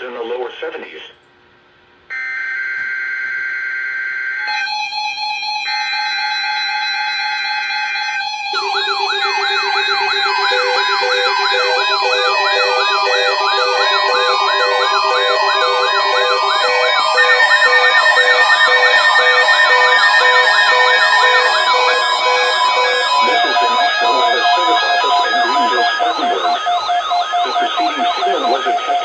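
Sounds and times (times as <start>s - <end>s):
pulsing beep: 2.1s - 29.0s
steady electronic tones: 2.1s - 29.0s
yelping siren: 2.1s - 29.0s.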